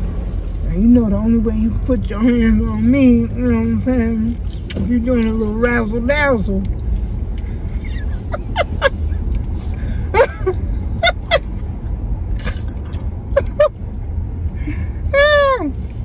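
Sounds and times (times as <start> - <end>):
car cabin engine and road rumble: 0.0 - 16.0.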